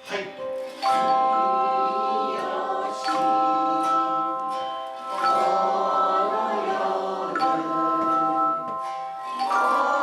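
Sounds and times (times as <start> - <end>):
group of voices singing: 0.2 - 10.0
tone chimes melody: 0.7 - 10.0.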